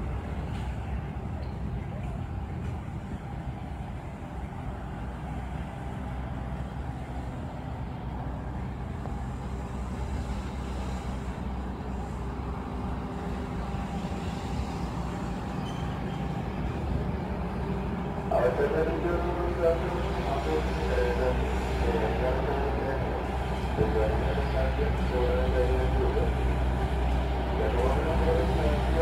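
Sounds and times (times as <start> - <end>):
train carriages rumbling on track: 0.0 - 29.0.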